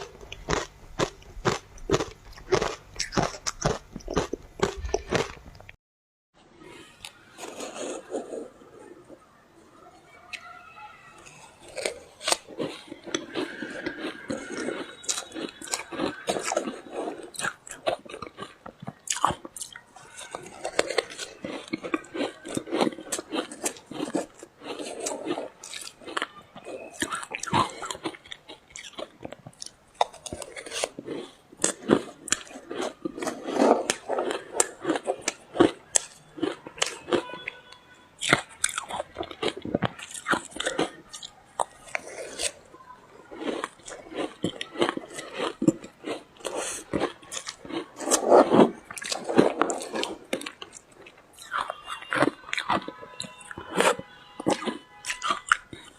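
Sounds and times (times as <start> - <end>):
ice being chewed: 0.0 - 5.8, 6.6 - 9.4, 11.2 - 55.9.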